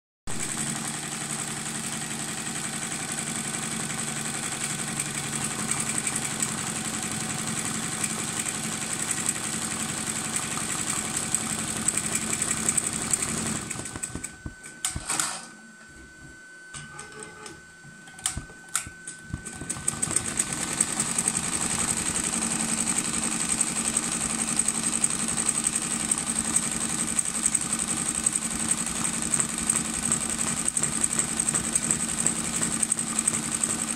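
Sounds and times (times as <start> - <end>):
embroidery machine stitching: 0.3 - 15.4, 19.3 - 33.9.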